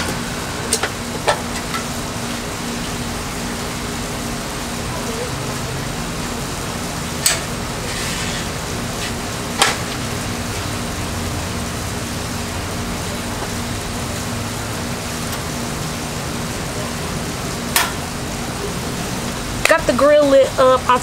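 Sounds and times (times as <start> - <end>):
steady hum and hiss: 0.0 - 21.0.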